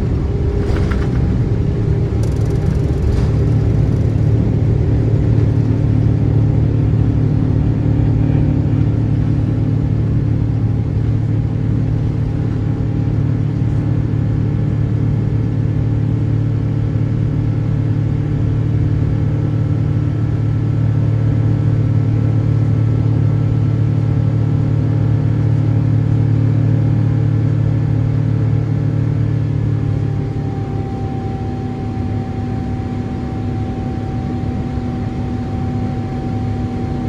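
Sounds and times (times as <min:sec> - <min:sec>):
jet engines at takeoff power: 0:00.0 - 0:37.0.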